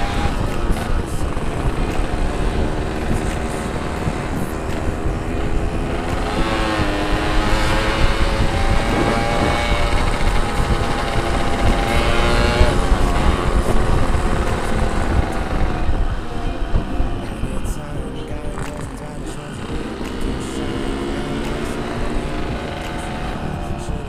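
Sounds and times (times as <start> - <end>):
two-stroke motorcycle engine running: 0.0 - 24.0
wind rumble on microphone: 0.0 - 24.0.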